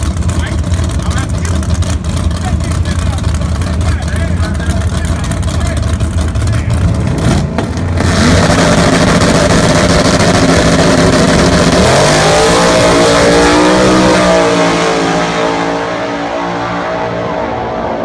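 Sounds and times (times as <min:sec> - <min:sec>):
drag racing car engine revving: 0:00.0 - 0:18.0.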